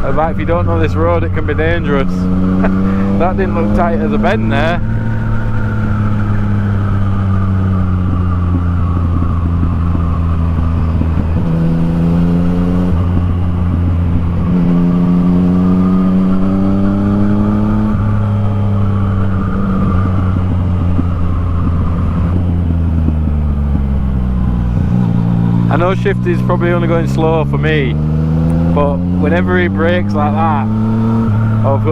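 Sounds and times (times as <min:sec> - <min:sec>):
motorcycle engine while riding: 0:00.0 - 0:31.9.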